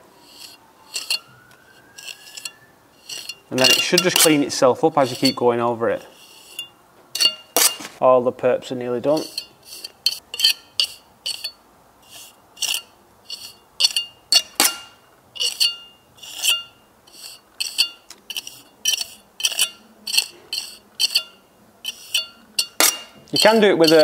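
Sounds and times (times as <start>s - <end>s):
trowel scraping mortar joints: 0.0s - 8.0s, 9.0s - 24.0s.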